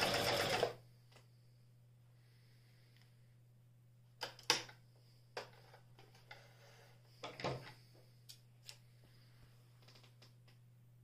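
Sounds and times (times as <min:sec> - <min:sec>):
faint low hum: 0:00.6 - 0:11.0.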